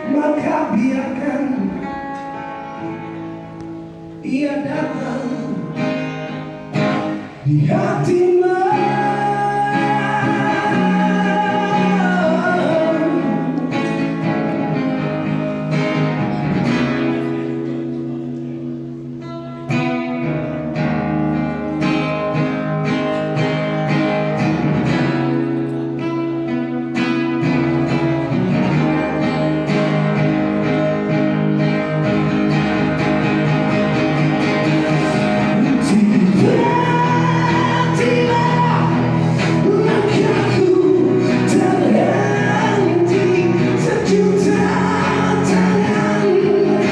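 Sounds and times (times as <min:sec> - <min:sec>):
live band instrumental music: 0:00.0 - 0:46.9.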